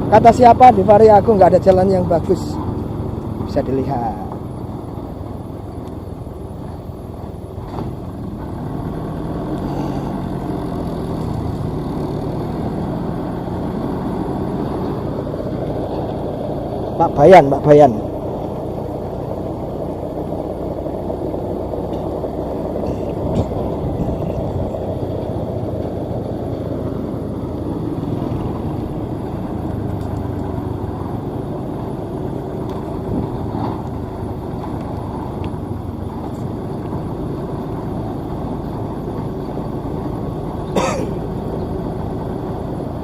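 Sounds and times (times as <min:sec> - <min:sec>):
combine harvester running: 0:00.0 - 0:43.0.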